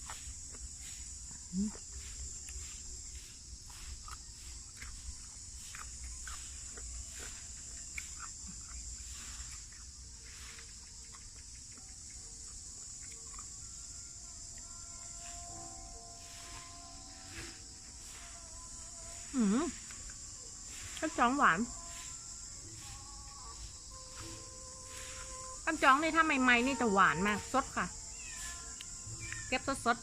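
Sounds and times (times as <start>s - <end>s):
high-pitched insect buzz: 0.0s - 30.0s.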